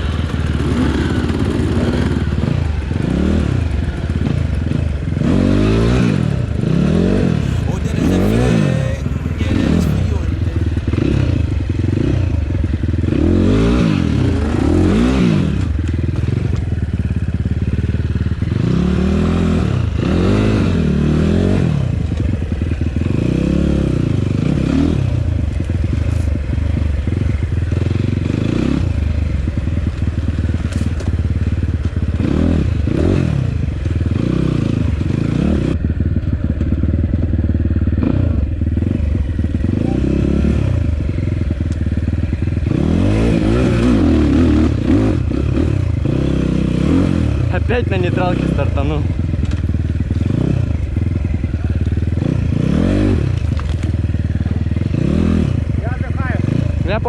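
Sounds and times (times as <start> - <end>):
motorcycle engine revving: 10.6 - 57.0.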